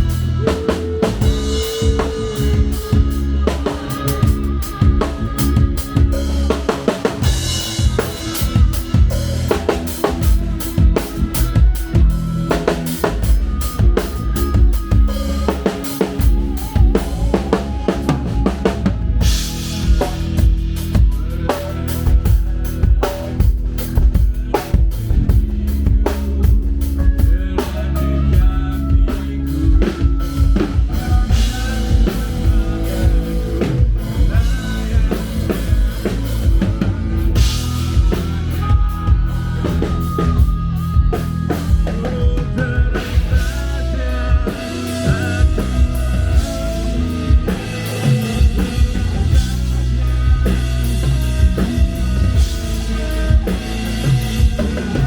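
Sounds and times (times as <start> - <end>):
drum kit: 0.0 - 55.0
guitar: 0.0 - 55.0
rock music: 0.0 - 55.0.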